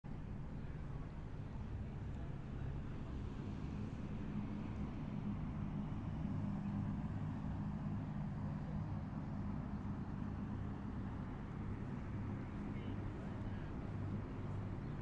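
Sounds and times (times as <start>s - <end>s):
low engine drone: 0.1s - 15.0s.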